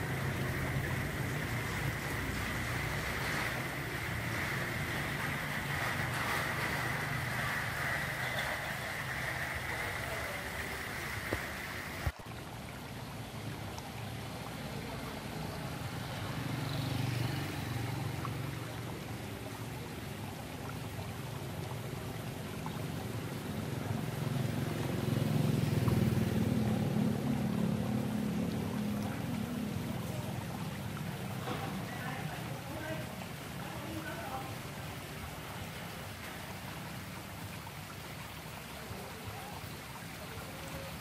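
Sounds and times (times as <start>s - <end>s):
street traffic: 0.0s - 12.2s, 13.4s - 35.1s.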